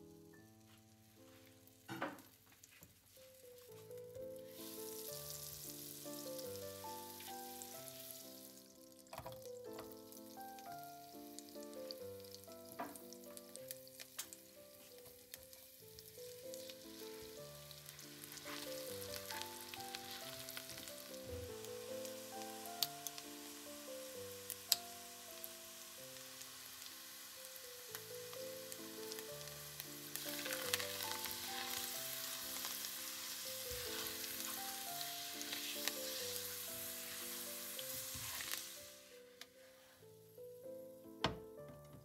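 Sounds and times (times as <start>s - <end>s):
soft background music: 0.0s - 42.0s
food sizzling in a pan: 0.2s - 40.2s.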